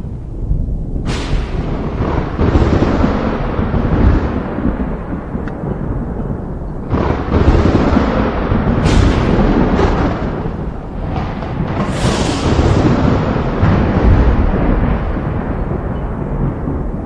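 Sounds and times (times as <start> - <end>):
thunder crack and rumble: 0.0 - 17.0.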